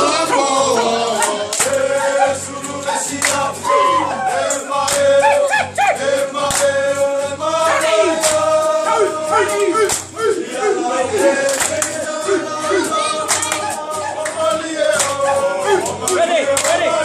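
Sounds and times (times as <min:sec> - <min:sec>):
group of voices singing: 0:00.0 - 0:17.0.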